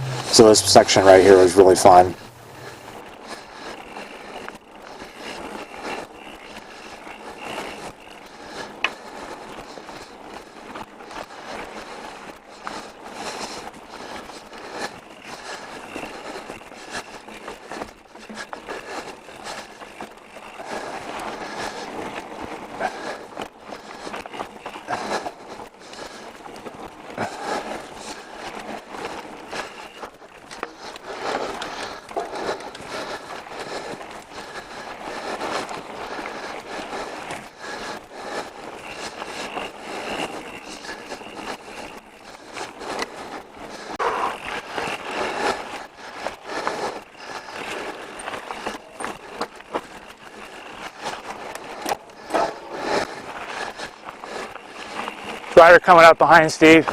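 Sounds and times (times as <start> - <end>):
bike knocking and rattling on rocks: 2.6 - 56.9.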